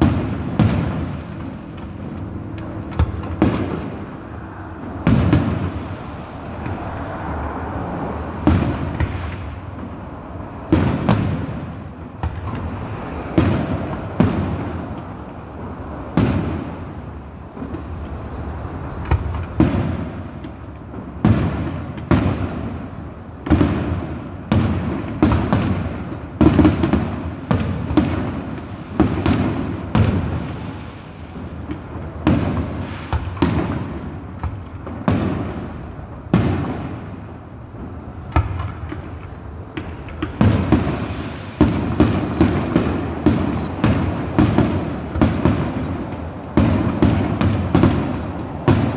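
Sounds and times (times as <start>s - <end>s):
fireworks bursting with echo: 0.0s - 48.9s.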